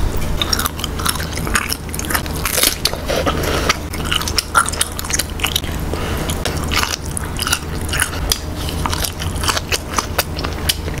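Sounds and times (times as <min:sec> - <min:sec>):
person chewing with mouth clicks: 0:00.2 - 0:11.0.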